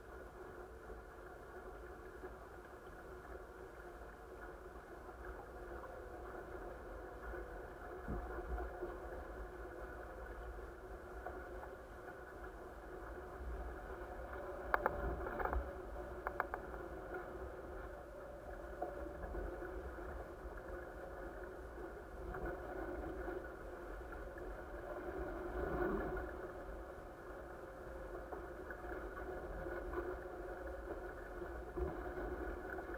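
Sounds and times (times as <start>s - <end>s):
wind rumble on microphone: 3.7s - 32.9s.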